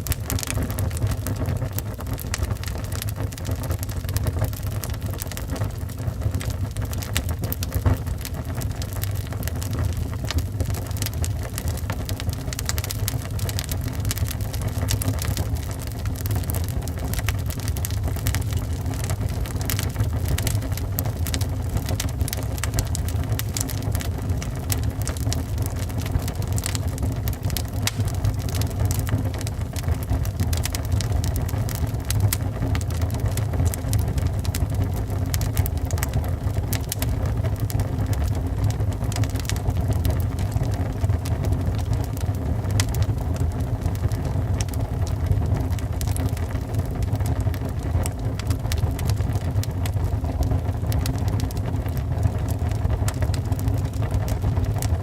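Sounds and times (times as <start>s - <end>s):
low rumble of burning: 0.0s - 55.0s
wood fire crackling and popping: 0.0s - 55.0s.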